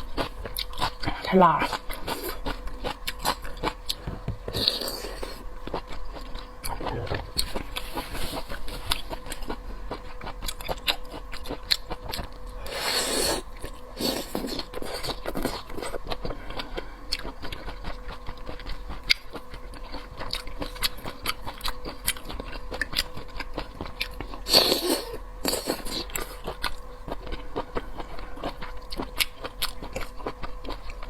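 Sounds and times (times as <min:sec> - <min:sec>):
chewing and biting seafood: 0:00.0 - 0:31.0.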